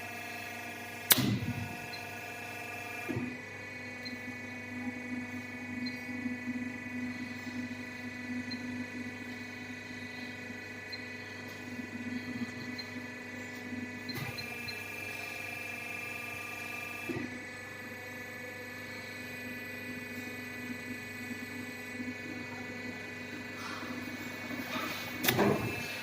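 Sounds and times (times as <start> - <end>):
pipe bending machine humming: 0.0 - 26.0.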